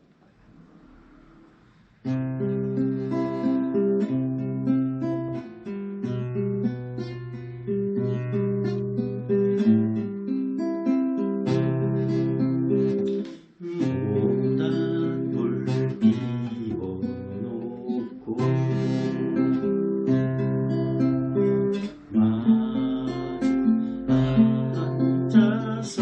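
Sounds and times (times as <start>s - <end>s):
classical guitar arpeggios: 2.0s - 26.0s.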